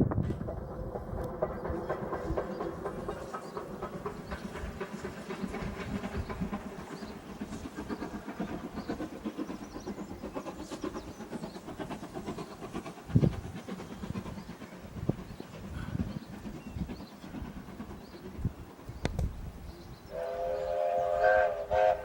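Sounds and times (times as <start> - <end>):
steam train wheels clattering: 0.0 - 22.0.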